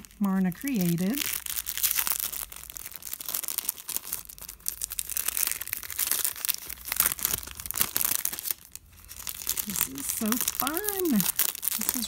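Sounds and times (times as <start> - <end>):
foil pouch crinkling: 0.0 - 12.0.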